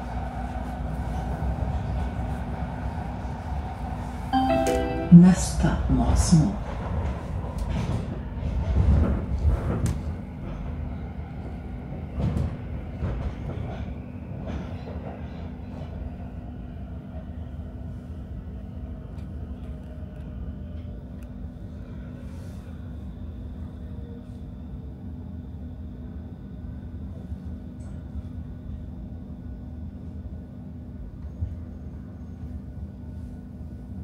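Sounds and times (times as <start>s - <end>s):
train rumble with clattering wheels: 0.0s - 4.4s, 5.2s - 34.0s
standing train equipment hum: 0.0s - 34.0s.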